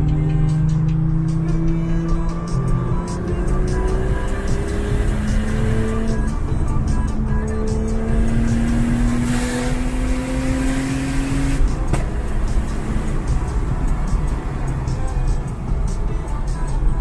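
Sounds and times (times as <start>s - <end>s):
car engine accelerating: 0.0s - 17.0s
music: 0.0s - 17.0s.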